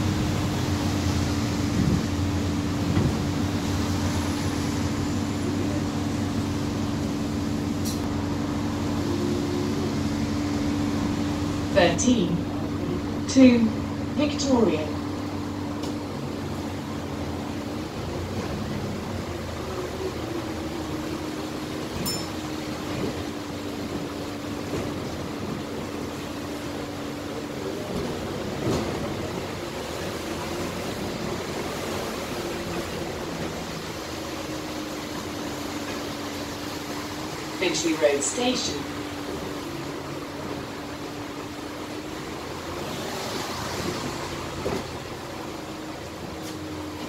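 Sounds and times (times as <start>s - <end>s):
bus drivetrain hum: 0.0s - 47.0s
road noise: 0.0s - 47.0s.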